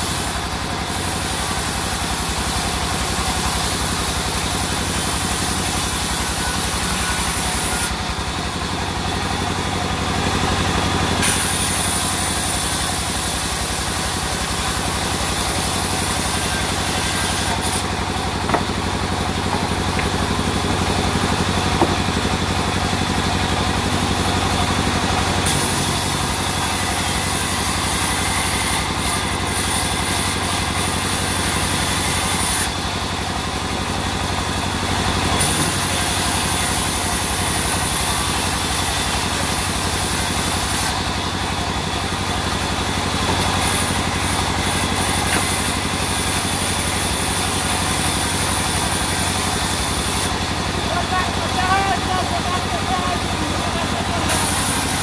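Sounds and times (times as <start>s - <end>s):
band saw drone: 0.0s - 55.0s
saw cutting wood hiss: 0.0s - 55.0s.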